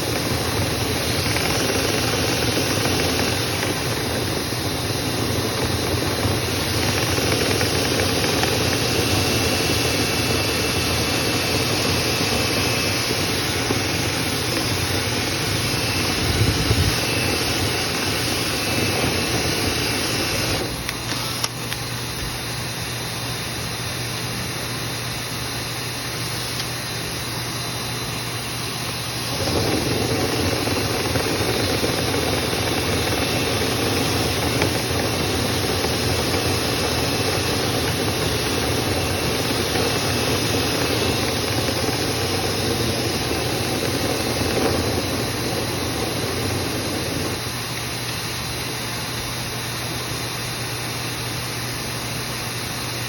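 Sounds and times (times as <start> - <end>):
cleaning equipment droning: 0.0 - 53.0.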